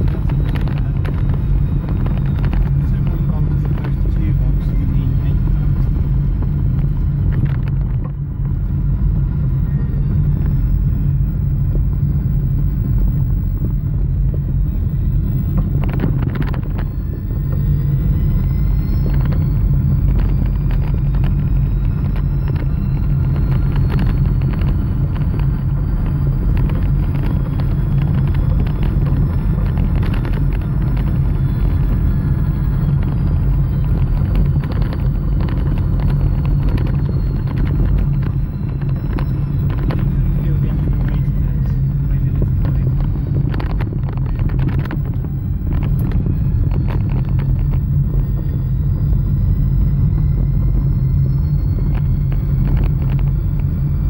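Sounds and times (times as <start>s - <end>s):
car road rumble: 0.0s - 54.0s
electric motor whine: 0.0s - 54.0s.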